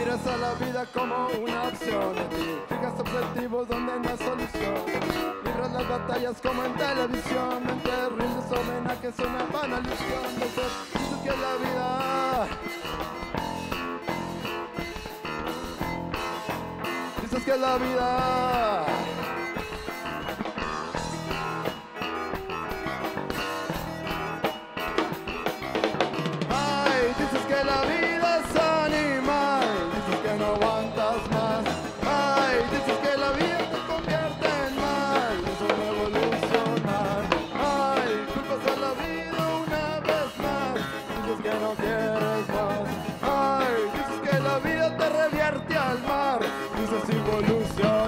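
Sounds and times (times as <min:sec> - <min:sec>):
bending lead melody: 0:00.0 - 0:48.0
drum kit: 0:00.0 - 0:48.0
electric bass: 0:00.0 - 0:48.0
electric guitar: 0:00.0 - 0:48.0
keyboard: 0:00.0 - 0:48.0.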